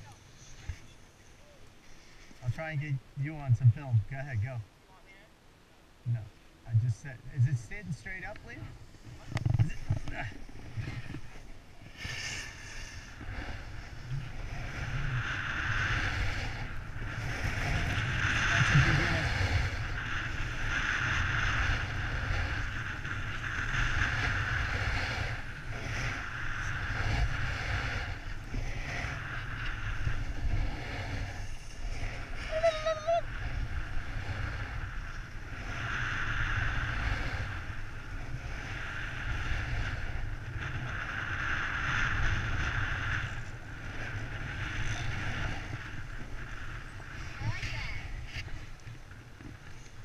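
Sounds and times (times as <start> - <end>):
wind buffeting microphone: 6.0 - 50.0
snowboard scraping over snow: 6.1 - 50.0.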